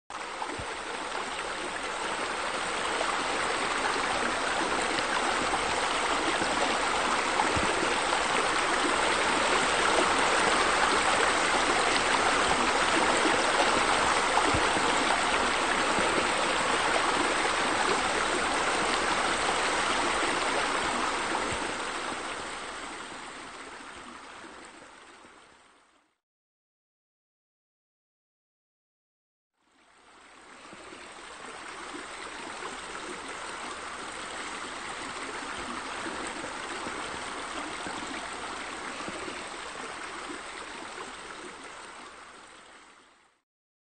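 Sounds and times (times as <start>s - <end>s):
rush of running water: 0.1s - 25.8s, 29.7s - 43.4s.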